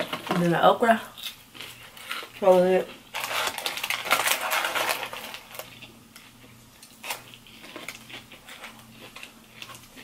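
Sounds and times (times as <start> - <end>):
chewing crunchy food: 1.2 - 10.0.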